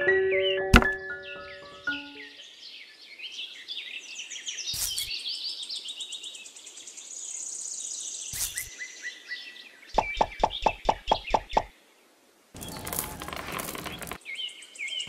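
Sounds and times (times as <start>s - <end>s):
small birds chirping: 1.1s - 15.0s.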